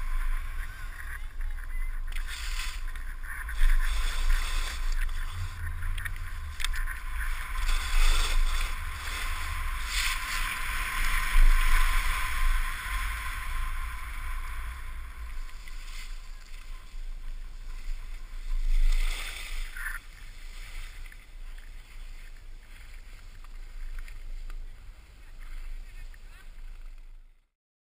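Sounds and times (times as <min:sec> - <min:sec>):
skis hissing over packed snow: 0:00.0 - 0:26.8
wind rumbling on microphone: 0:00.0 - 0:27.4.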